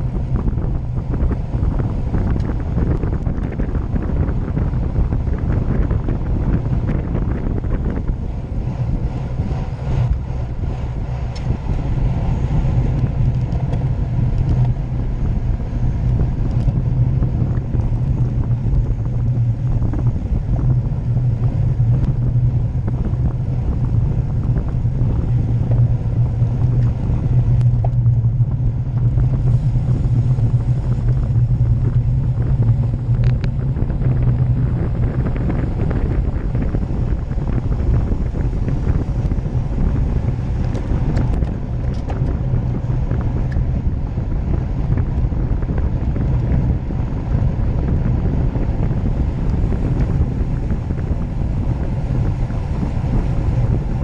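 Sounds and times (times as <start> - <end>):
tyres rumbling on asphalt: 0.0 - 54.0
wind buffeting microphone: 0.0 - 54.0.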